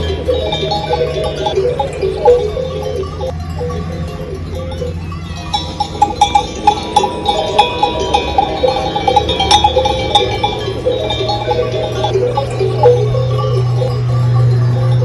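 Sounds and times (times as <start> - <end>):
sheep bells clanking: 0.0 - 15.0.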